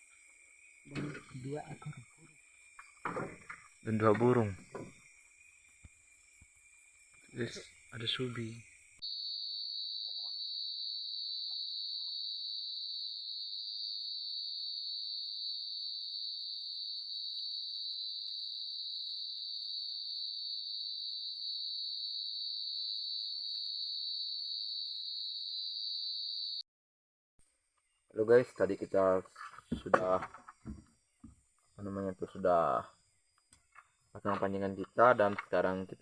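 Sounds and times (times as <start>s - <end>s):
night insects trilling: 0.0s - 26.6s, 27.8s - 36.0s.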